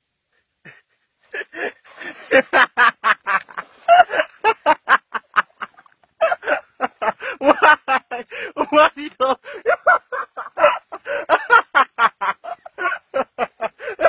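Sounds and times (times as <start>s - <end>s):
person laughing hard: 0.7s - 14.0s.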